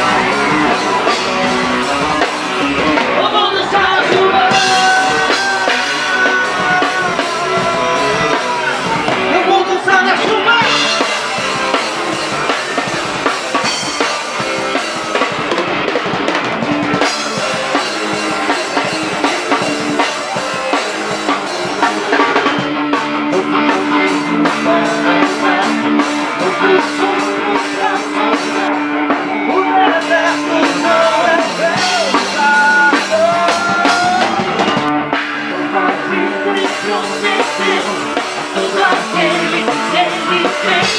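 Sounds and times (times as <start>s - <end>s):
drum kit: 0.0s - 40.9s
live band playing: 0.0s - 40.9s.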